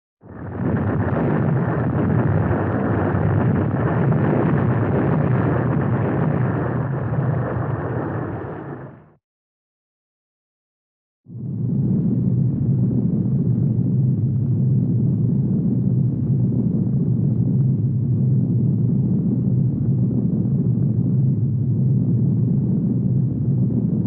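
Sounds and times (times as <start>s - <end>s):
earthquake rumble: 0.2s - 9.2s, 11.3s - 24.0s.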